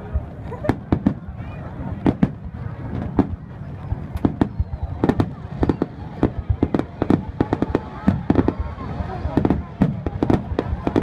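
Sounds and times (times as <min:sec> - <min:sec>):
fireworks bursting: 0:00.1 - 0:11.0.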